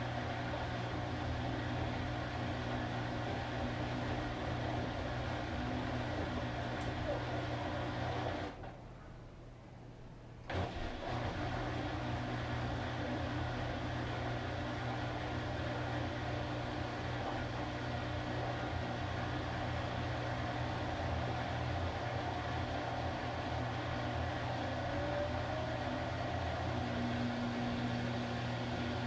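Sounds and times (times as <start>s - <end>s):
washing machine motor running: 0.0s - 8.6s, 10.5s - 29.0s.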